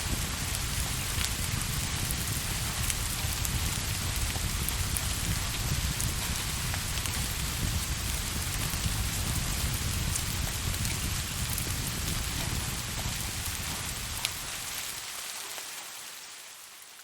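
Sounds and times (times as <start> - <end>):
deep low rumble: 0.0 - 14.3
steady rain: 0.0 - 17.0.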